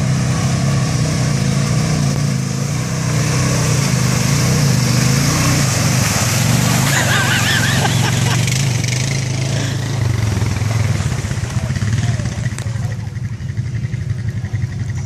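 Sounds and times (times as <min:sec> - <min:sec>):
atv engine running: 0:00.0 - 0:15.0
water splashing around wheels: 0:00.0 - 0:15.0.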